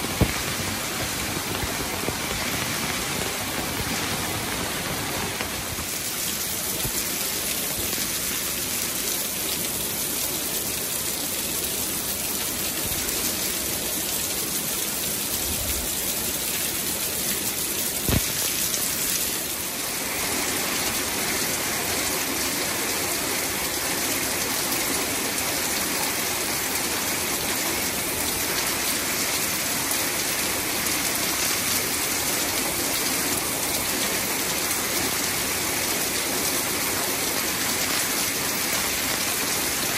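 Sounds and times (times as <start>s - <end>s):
heavy rain on concrete and leaves: 0.0s - 39.9s.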